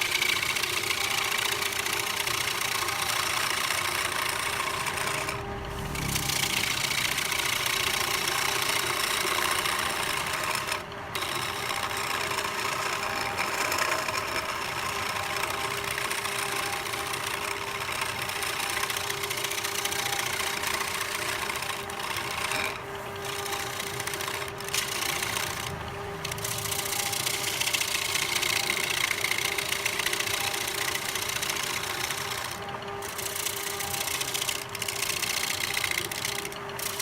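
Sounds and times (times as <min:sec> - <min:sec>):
cutting tool shaving wood: 0:00.0 - 0:37.0
lathe motor hum: 0:00.0 - 0:37.0.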